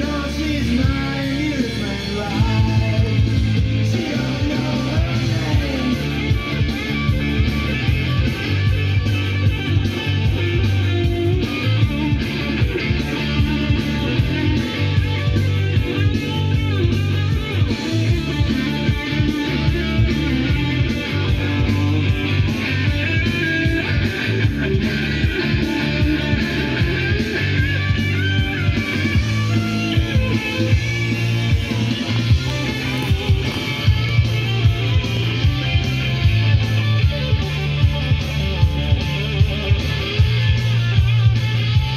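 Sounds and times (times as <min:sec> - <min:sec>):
guitar-led rock music: 0:00.0 - 0:41.9.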